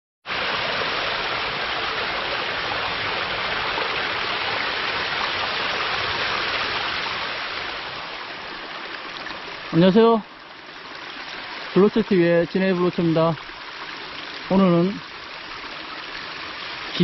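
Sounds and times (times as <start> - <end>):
stream water rushing: 0.3 - 17.0.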